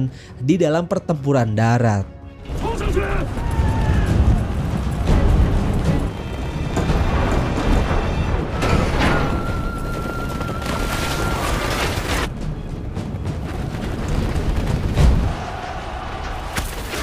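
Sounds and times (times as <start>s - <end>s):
film soundtrack music: 0.0s - 17.0s.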